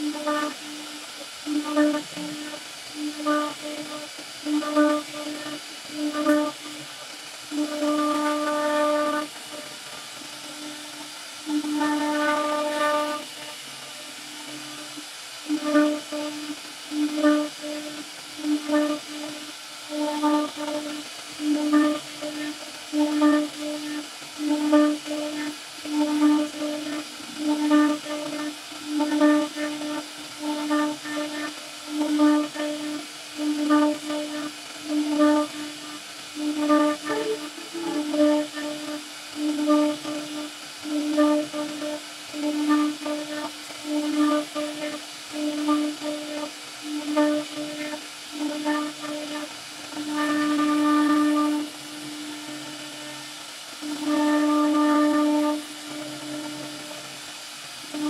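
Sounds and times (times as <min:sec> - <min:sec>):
cnc router spindle whining: 0:00.0 - 0:58.0.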